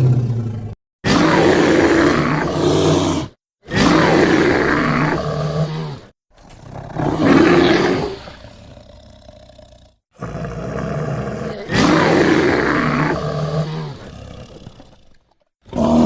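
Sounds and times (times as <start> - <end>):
loud growly animal roar: 0.0 - 16.0.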